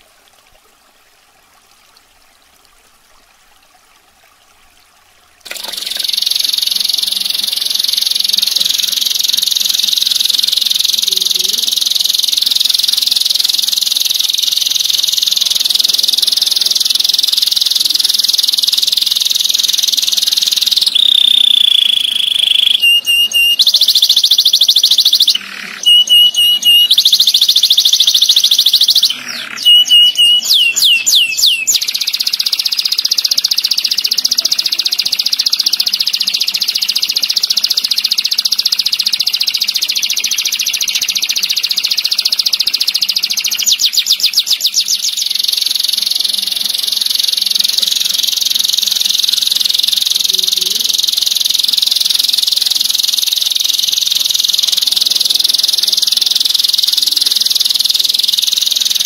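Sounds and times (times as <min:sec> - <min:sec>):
canary singing trills: 0:05.5 - 0:59.0.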